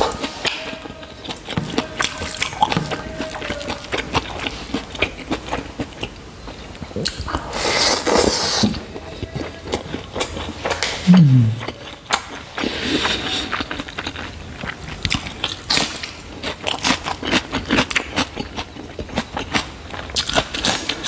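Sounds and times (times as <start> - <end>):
chewing and lip smacks: 0.0 - 7.5, 9.0 - 21.0.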